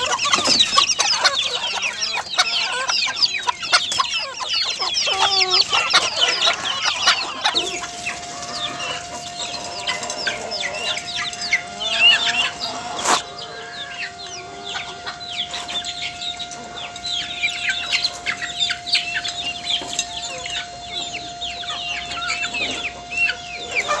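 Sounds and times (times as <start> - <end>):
chickens clucking: 0.0 - 24.0
chicks peeping: 0.0 - 24.0.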